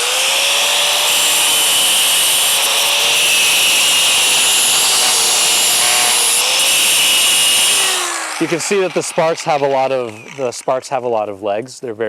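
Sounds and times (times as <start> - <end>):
grinder motor whine: 0.0 - 10.9
metal being ground: 1.1 - 11.3.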